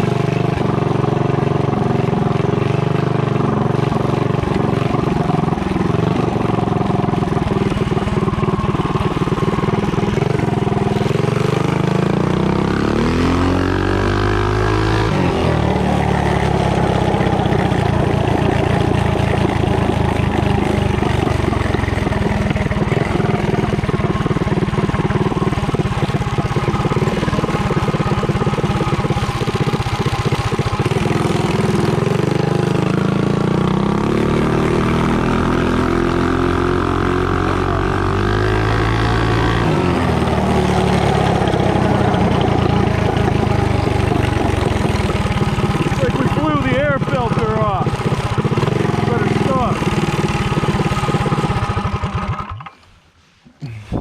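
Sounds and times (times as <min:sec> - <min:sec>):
small engine revving up: 0:00.0 - 0:52.9.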